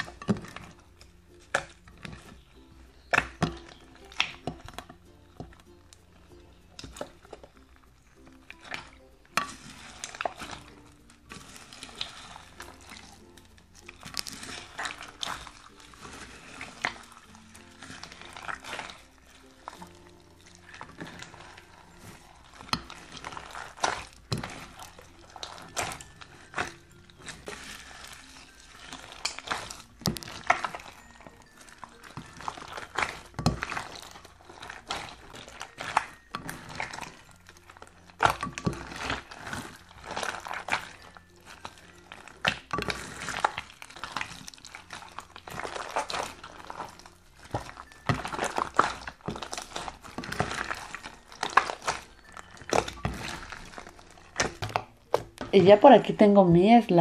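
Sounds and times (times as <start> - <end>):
slime squelching and popping: 0.0 - 57.0.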